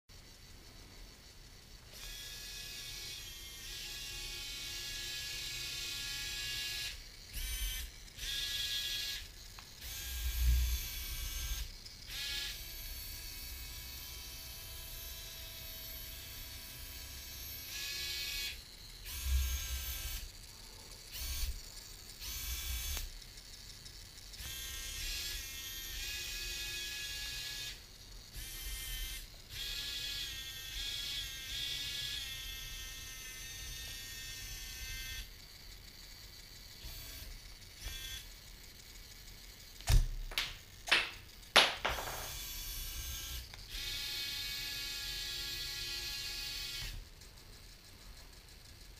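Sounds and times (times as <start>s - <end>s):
small motors whining: 0.2s - 48.9s.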